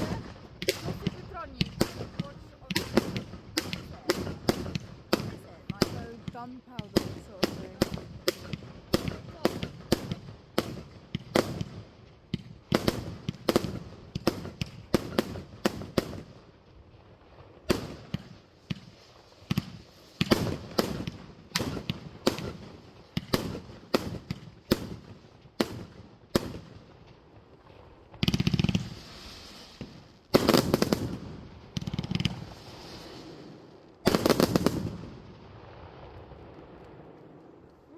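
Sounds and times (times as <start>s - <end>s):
fireworks bangs: 0.0s - 16.4s, 17.4s - 37.9s
fireworks crackling: 0.0s - 37.9s.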